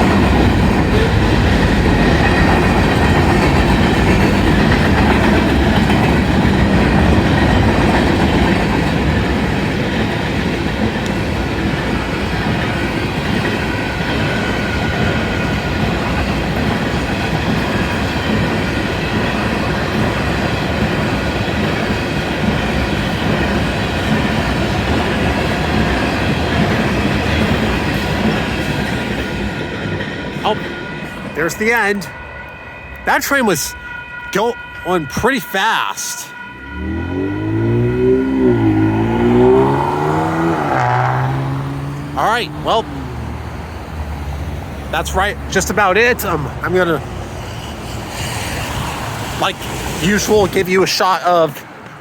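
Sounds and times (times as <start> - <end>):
freight train wheels clattering on rail: 0.0 - 33.1, 43.3 - 52.0.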